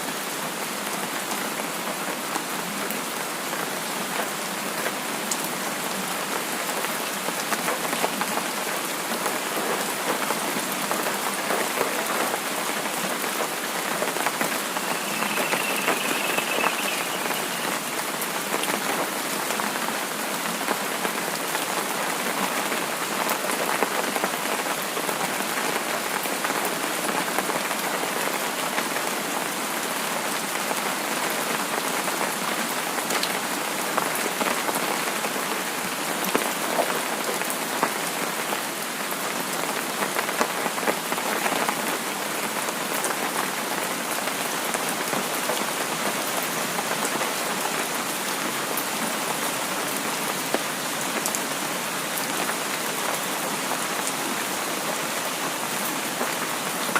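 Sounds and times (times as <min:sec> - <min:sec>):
rain falling on a surface: 0:00.0 - 0:56.9.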